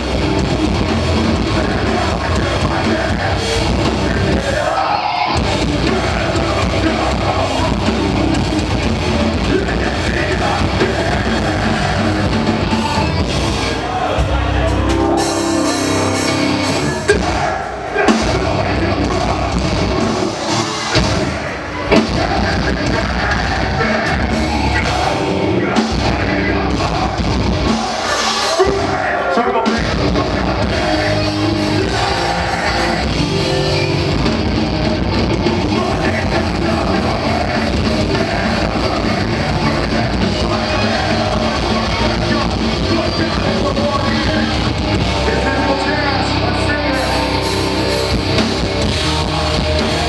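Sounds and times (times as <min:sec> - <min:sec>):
bass guitar: 0:00.0 - 0:50.0
distorted electric guitars: 0:00.0 - 0:50.0
drum kit: 0:00.0 - 0:50.0
vocalist singing and yelling: 0:00.0 - 0:50.0.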